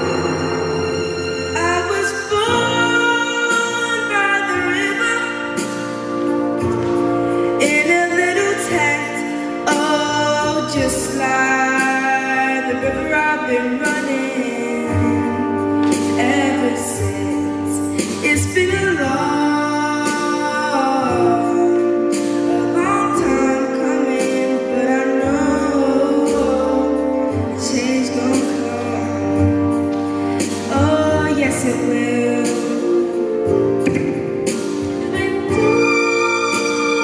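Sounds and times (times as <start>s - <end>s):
instrumental accompaniment: 0.0s - 37.0s.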